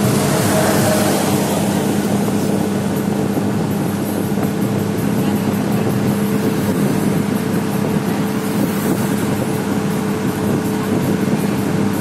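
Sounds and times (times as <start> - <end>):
road noise: 0.0 - 12.0
truck engine running steadily: 0.0 - 12.0
wind noise: 0.0 - 12.0.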